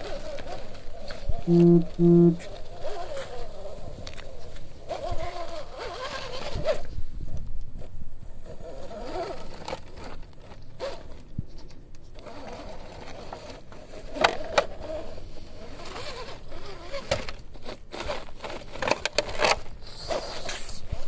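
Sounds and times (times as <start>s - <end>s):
tyres and chassis scraping on rocks: 0.0s - 1.4s, 2.4s - 7.0s, 8.4s - 11.3s, 12.1s - 21.0s
electric motor and gears whining: 0.0s - 21.0s.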